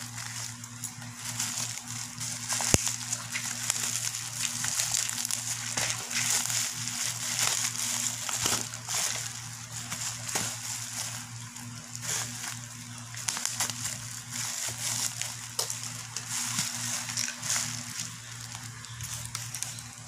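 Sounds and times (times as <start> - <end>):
bubble wrap crinkling: 0.0 - 20.0
steady low hum: 0.0 - 20.0.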